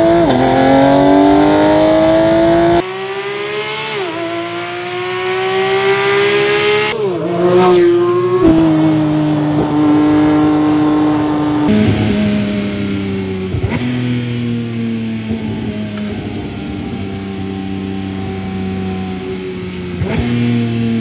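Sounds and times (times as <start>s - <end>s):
sports car engine at high revs: 0.0s - 21.0s.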